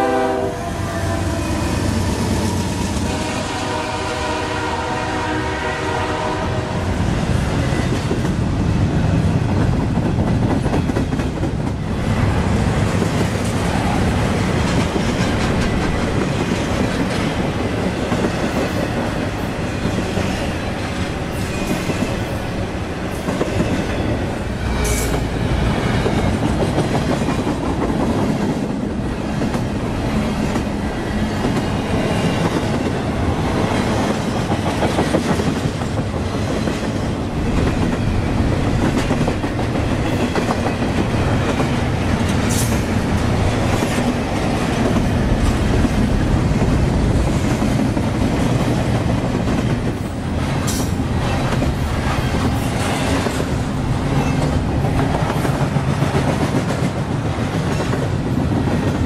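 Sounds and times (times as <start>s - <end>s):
train wheels rumbling on rails: 0.0s - 59.0s
clickety-clack over rail joints: 7.5s - 59.0s.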